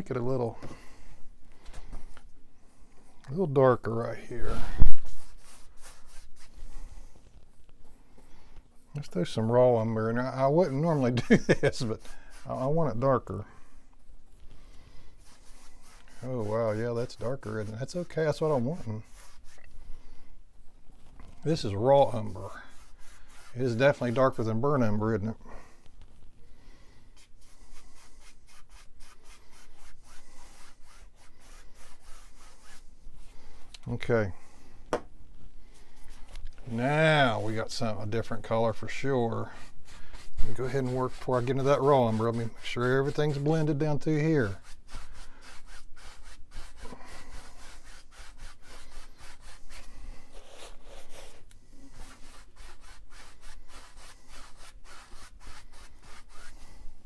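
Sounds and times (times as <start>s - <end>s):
brush scrubbing canvas: 4.2s - 13.4s, 14.3s - 20.1s, 21.0s - 26.2s, 27.1s - 34.0s, 35.8s - 57.0s.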